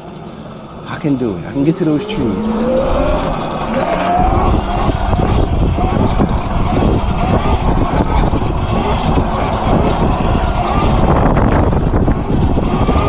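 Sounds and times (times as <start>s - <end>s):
wind noise on microphone: 1.8s - 13.0s.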